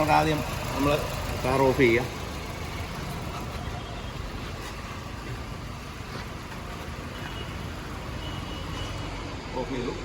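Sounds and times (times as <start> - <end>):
car engine idling with misfire: 0.0 - 9.9.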